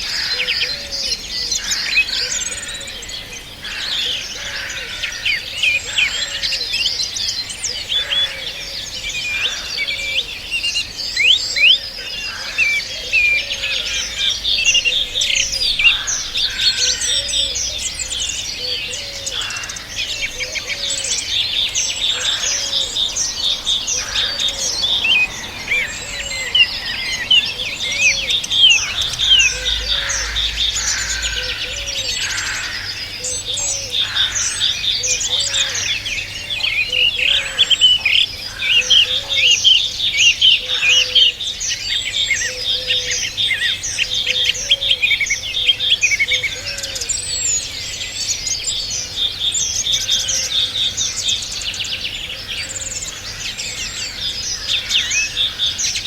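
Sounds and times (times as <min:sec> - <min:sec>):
songbirds chorus: 0:00.0 - 0:56.0.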